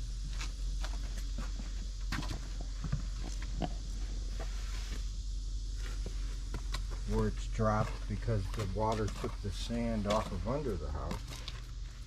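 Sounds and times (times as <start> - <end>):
footsteps on hard ground: 0.0 - 5.1, 5.7 - 12.0
steady low rumble: 0.0 - 12.0.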